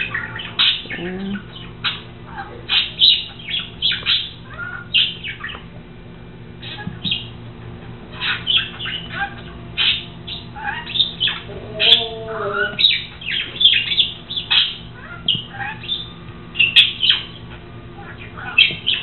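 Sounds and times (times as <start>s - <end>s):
pet bird chirping and squawking: 0.0s - 5.7s, 6.6s - 19.0s.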